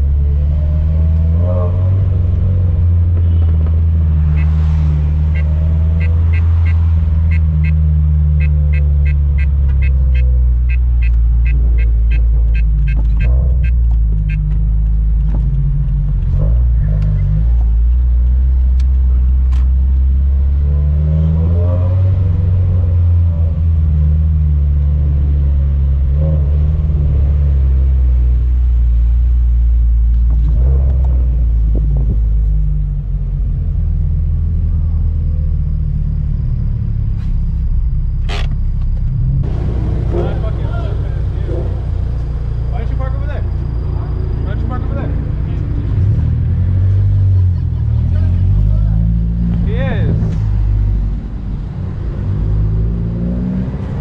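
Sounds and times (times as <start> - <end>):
car engine low drone: 0.0 - 54.0.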